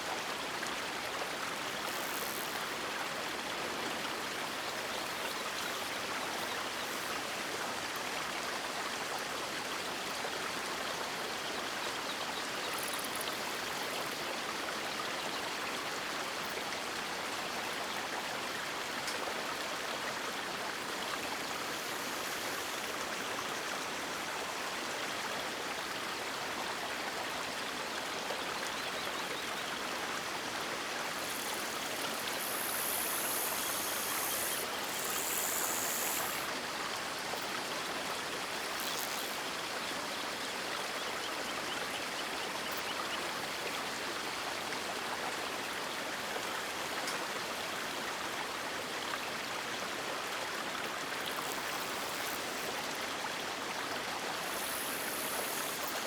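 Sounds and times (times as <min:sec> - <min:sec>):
flowing river water: 0:00.0 - 0:56.0.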